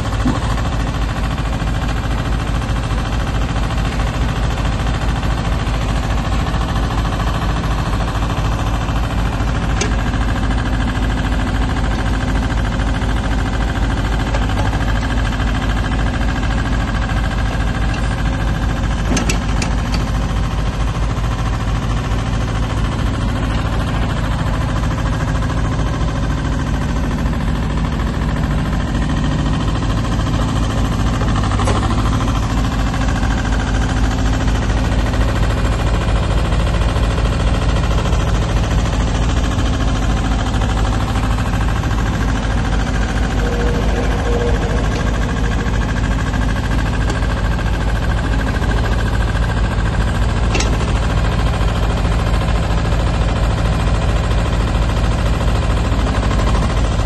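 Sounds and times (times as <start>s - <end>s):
diesel engine chugging: 0.0s - 57.0s.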